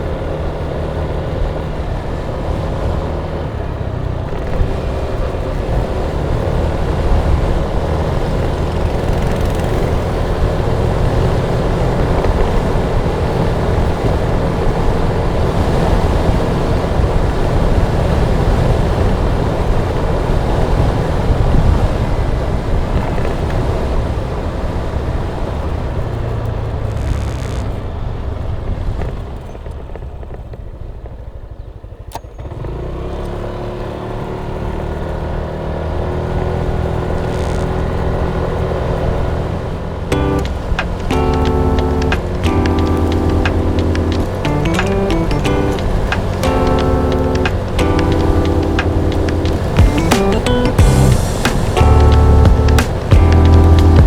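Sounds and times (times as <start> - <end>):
scooter engine running: 0.0 - 24.6, 25.6 - 54.0
wind and road noise: 0.0 - 54.0.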